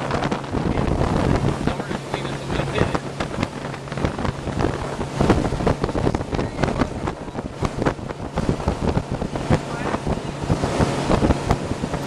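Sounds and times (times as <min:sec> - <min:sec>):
low motor hum: 0:00.0 - 0:12.0
rushing water: 0:00.0 - 0:12.0
wind buffeting microphone: 0:00.0 - 0:12.0.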